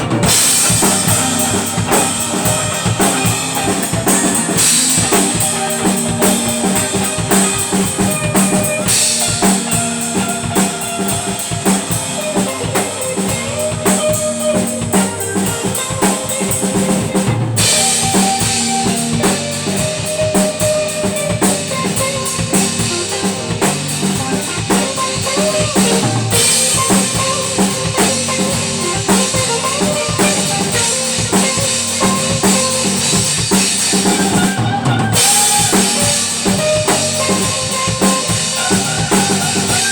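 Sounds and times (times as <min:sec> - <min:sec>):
band playing: 0:00.0 - 0:39.9
drum kit beat: 0:00.0 - 0:39.9.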